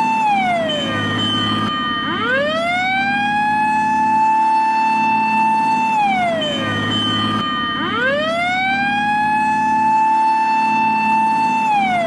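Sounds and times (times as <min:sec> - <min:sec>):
fire engine siren wailing: 0:00.0 - 0:12.0
low steady drone: 0:00.0 - 0:12.0.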